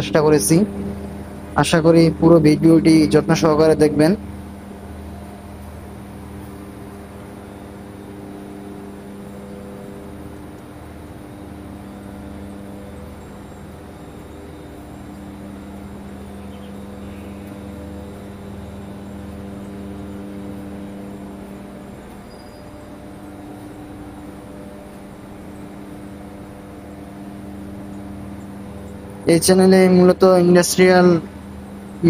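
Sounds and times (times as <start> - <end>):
factory machinery humming: 0.0 - 32.0.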